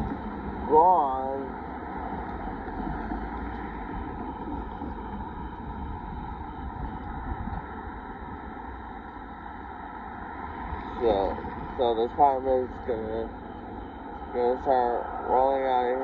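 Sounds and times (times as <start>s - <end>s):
car passing: 0.0s - 16.0s
diesel locomotives idling: 0.0s - 16.0s.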